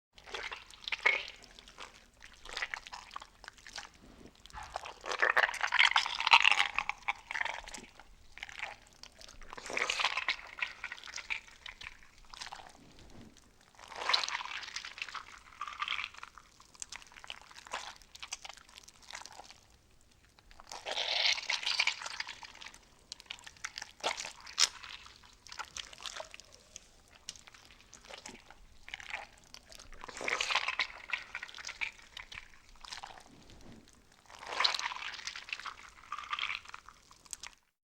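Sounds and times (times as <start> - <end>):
slime squelching: 0.2 - 37.6.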